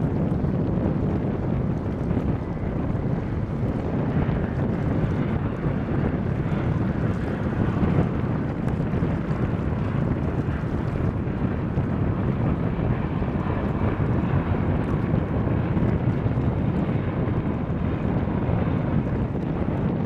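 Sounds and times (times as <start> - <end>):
jet engines rumbling: 0.0 - 20.0
wind buffeting microphone: 0.0 - 20.0.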